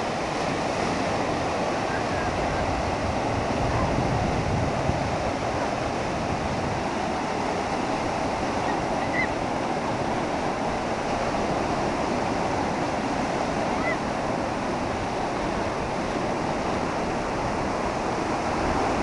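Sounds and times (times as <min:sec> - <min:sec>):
surf washing onto rocky beach: 0:00.0 - 0:19.0.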